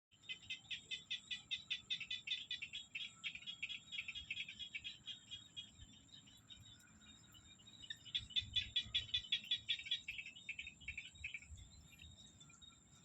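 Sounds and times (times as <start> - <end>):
frogs and birds chirping: 0.1 - 13.0.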